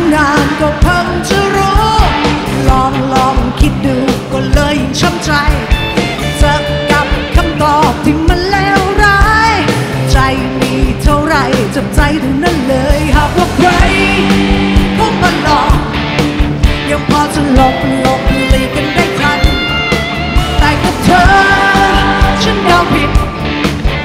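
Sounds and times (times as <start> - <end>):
bending lead guitar melody: 0.0 - 24.0
live rock band: 0.0 - 24.0.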